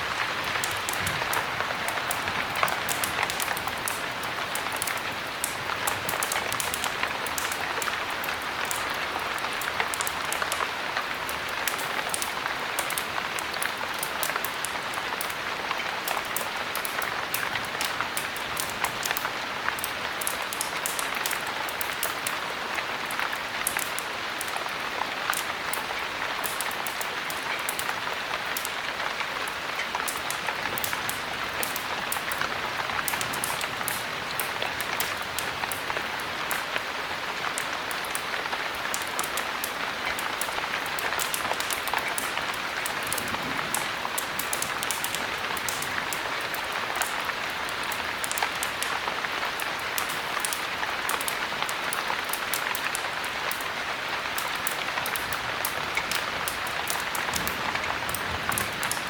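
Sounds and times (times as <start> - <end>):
heavy rain falling: 0.0 - 59.0
raindrop ticks: 0.0 - 59.0.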